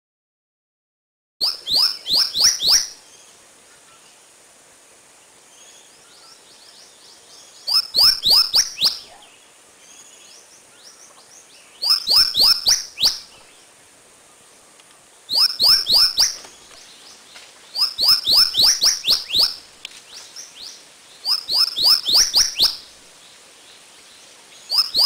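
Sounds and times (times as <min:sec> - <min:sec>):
running water hiss: 0:01.4 - 0:25.0
songbird singing: 0:01.4 - 0:25.0.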